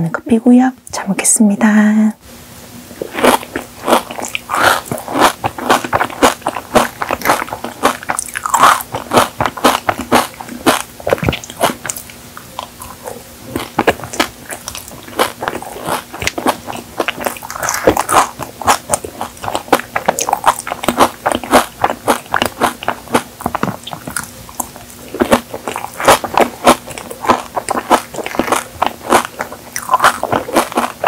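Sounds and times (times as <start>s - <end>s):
crisp crunching bites: 3.0s - 13.0s, 13.6s - 31.0s.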